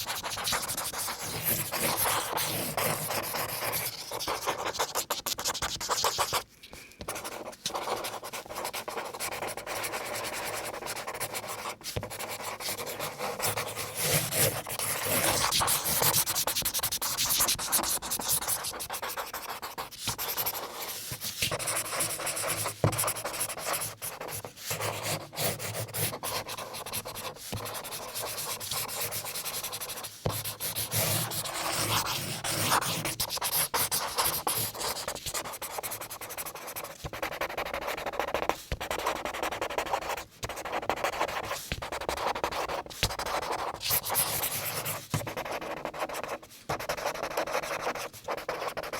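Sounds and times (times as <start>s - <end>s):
marker drawing on paper: 0.0s - 48.9s.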